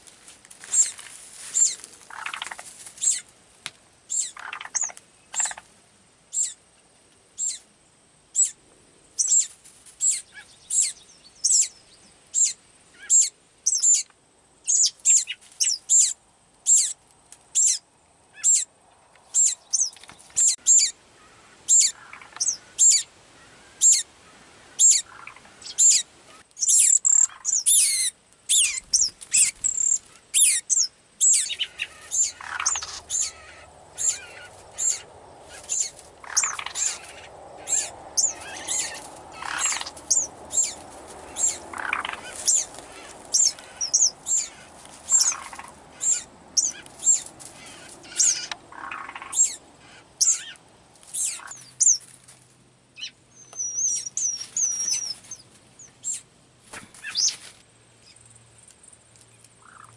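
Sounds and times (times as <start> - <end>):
young birds chirping: 0.6 - 3.3, 4.1 - 5.7, 6.3 - 6.6, 7.4 - 7.6, 8.3 - 52.1, 52.9 - 58.3, 59.2 - 59.9.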